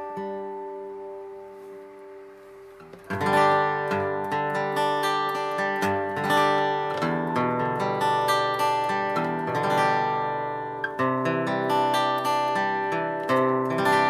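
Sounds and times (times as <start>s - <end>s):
acoustic guitar chords strummed: 0.0s - 14.0s.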